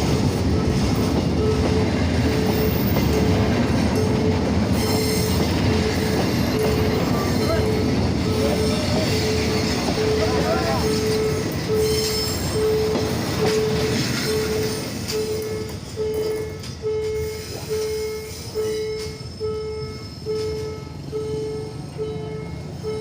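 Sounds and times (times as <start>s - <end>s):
train rumbling over rail joints: 0.0s - 23.0s.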